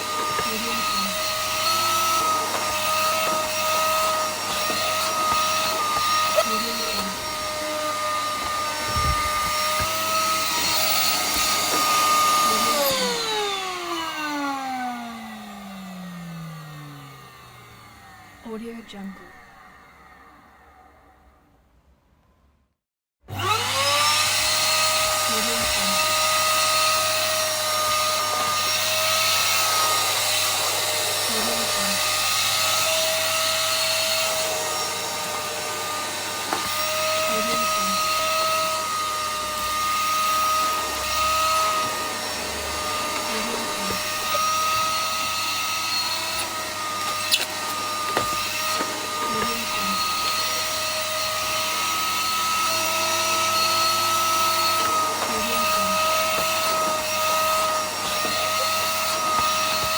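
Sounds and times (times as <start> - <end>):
vacuum cleaner motor whine: 0.0 - 21.5, 23.3 - 59.9.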